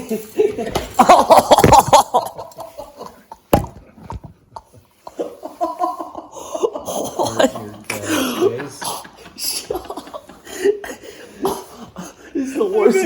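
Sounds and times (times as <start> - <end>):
people laughing: 0.0 - 3.5, 4.6 - 13.0.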